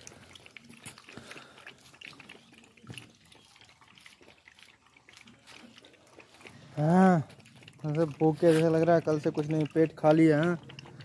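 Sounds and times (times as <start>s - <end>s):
puppies lapping milk from bowl: 0.0s - 11.0s.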